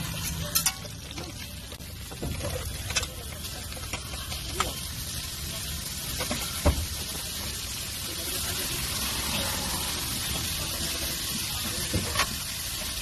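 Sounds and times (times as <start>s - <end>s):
vegetables sizzling on griddle: 0.0s - 13.0s.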